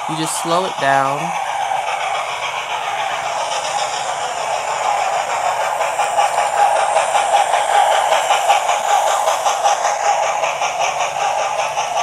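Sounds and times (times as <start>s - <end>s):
model train running hum: 0.0s - 12.0s
steam chuffing through small speaker: 0.0s - 12.0s.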